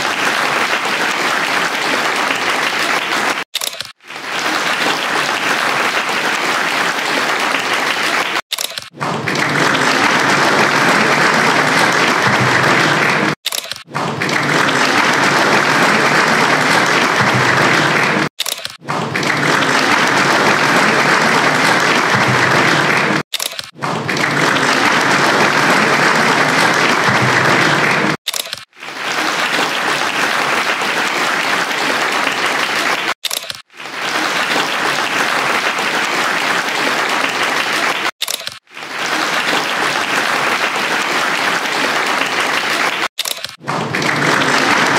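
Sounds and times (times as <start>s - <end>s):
applause: 0.0s - 44.9s.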